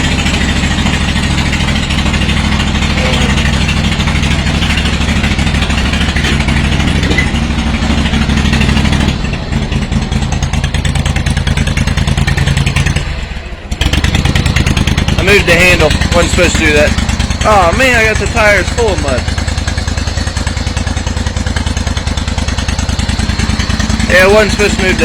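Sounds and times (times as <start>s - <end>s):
mower engine running: 0.0s - 25.0s.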